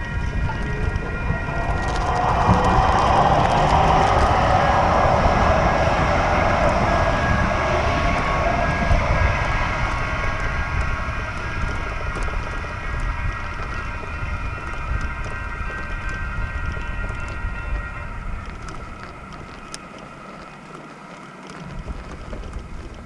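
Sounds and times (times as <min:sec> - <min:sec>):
faint high whining tones: 0:00.0 - 0:23.0
vehicle rumbling in motion: 0:00.0 - 0:23.0.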